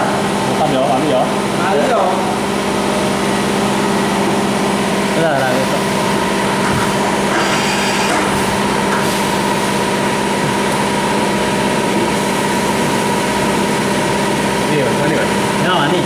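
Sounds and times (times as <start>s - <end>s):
cnc machine humming and whirring: 0.0s - 16.0s.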